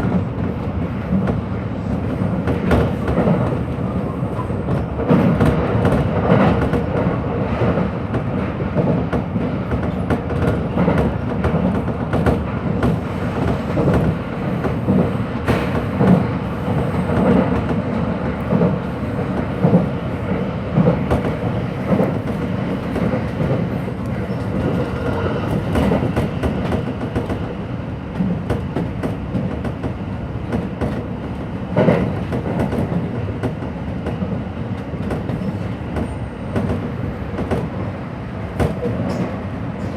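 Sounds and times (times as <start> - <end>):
wheels rumbling on rail: 0.0 - 39.9.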